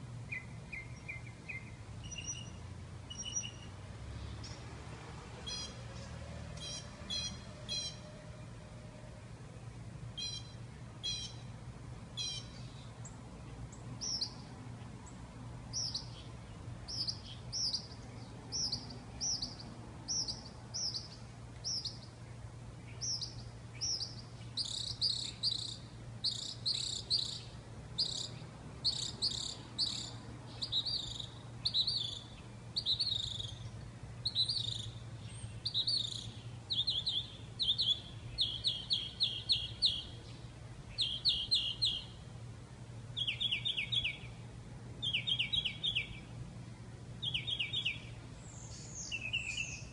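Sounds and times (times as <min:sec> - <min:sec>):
songbird chirping: 0:00.0 - 0:49.9.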